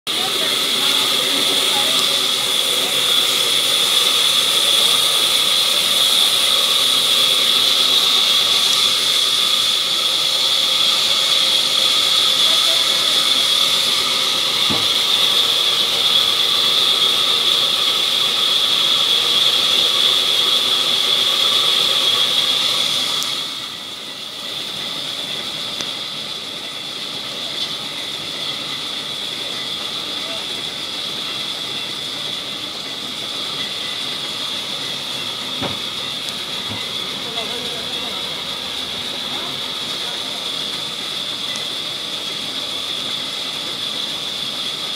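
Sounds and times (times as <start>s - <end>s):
band saw cutting log: 0.1s - 23.8s, 24.4s - 41.4s.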